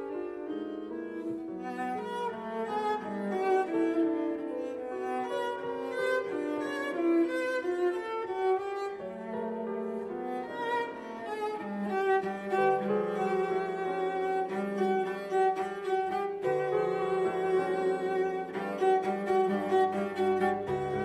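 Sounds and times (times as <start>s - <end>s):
cello bowed notes with vibrato: 0.0s - 21.0s
piano chords: 0.0s - 21.0s.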